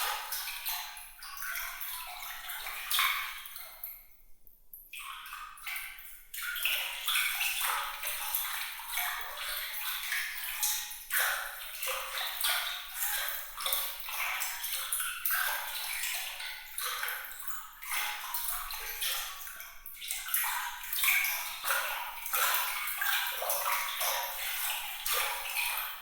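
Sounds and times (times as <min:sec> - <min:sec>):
water trickling and splashing: 0:00.0 - 0:04.2, 0:04.9 - 0:26.0.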